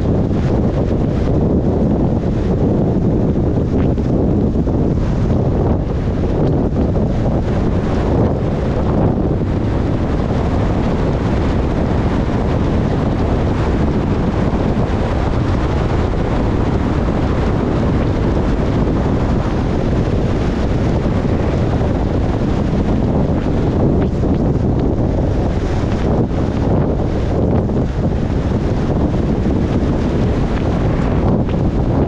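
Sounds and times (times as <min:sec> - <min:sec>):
car road noise: 0:00.0 - 0:32.0
wind rumbling on microphone: 0:00.0 - 0:32.0.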